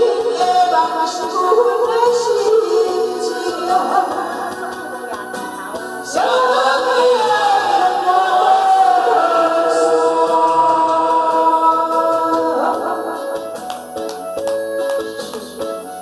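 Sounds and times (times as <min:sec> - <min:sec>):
man and woman singing duet: 0:00.0 - 0:13.4
recorded backing track: 0:00.0 - 0:16.0.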